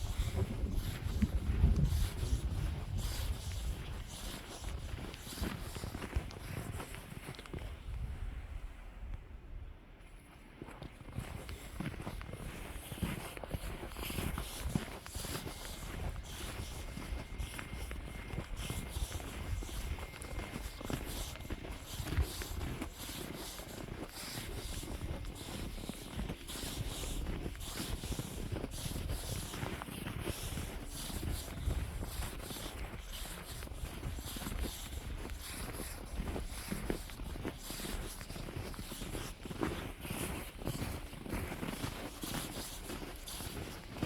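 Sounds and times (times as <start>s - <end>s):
footsteps crunching through snow: 0.0s - 8.2s, 10.0s - 44.0s
wind rumbling on microphone: 0.0s - 10.0s, 11.0s - 44.0s.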